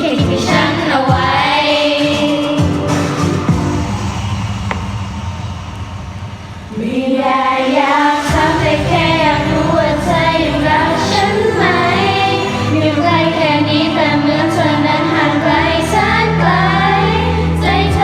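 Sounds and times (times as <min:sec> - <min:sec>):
choir singing pop song: 0:00.0 - 0:04.8, 0:06.7 - 0:18.0
backing music: 0:00.0 - 0:18.0.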